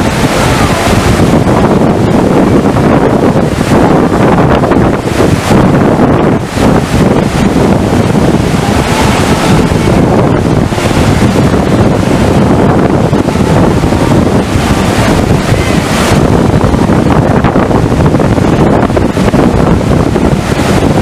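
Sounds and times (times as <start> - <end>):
rushing white water: 0.0 - 21.0
wind buffeting microphone: 0.0 - 21.0.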